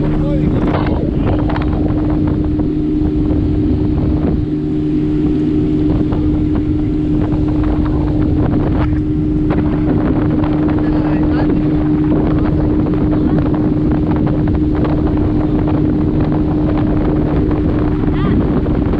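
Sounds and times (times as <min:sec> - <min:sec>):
outboard motor running: 0:00.0 - 0:18.9
water rushing along hull: 0:00.0 - 0:18.9
wind buffeting microphone: 0:00.0 - 0:18.9.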